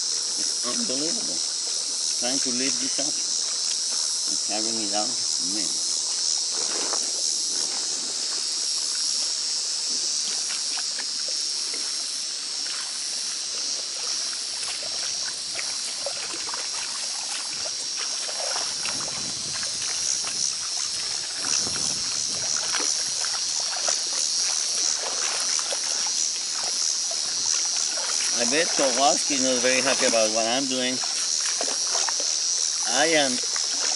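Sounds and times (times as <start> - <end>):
insects chorus: 0.0 - 33.9
pond water sloshing and splashing: 0.0 - 33.9.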